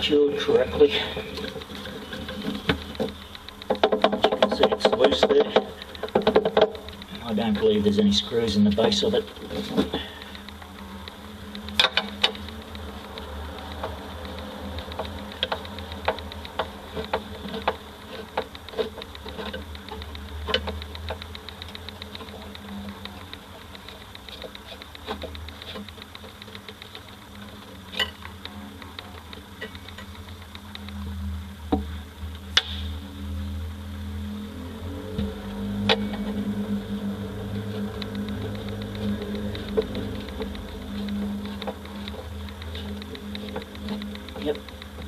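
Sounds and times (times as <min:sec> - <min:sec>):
low steady hum: 0:00.0 - 0:45.0
sharp clicks and knocks: 0:00.0 - 0:45.0.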